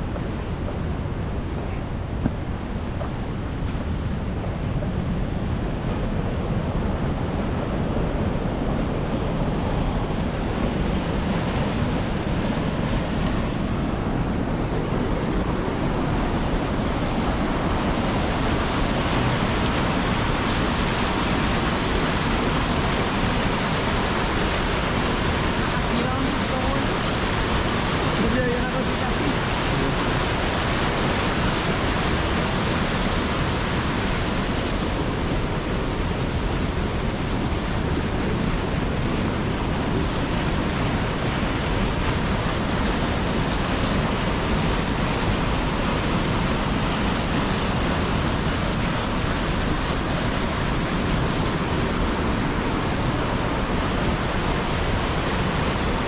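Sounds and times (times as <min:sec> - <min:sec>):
storm wind on microphone: 0:00.0 - 0:56.0
surf crashing: 0:00.0 - 0:56.0.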